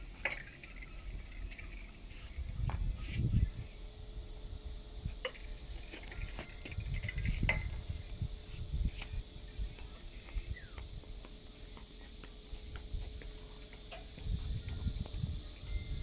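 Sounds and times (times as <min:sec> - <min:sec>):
high-pitched insect chirring: 0:00.0 - 0:16.0.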